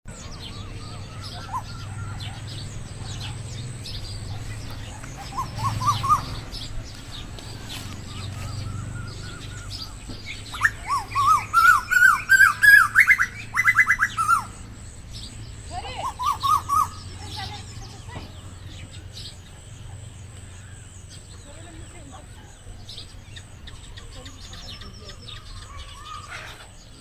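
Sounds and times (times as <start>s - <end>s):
faint chirps of other birds: 0.1s - 27.0s.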